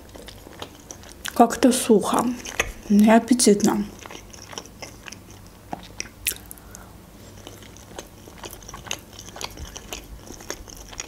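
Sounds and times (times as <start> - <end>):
close-miked chewing with mouth clicks: 0.0 - 11.0.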